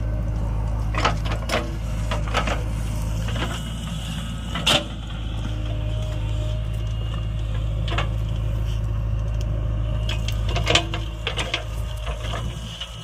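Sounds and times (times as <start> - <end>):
diesel engine hum: 0.0 - 13.0.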